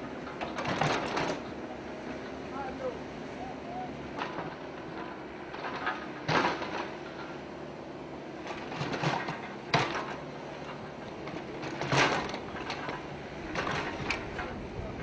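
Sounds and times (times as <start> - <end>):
heavy machinery running: 0.0 - 15.0.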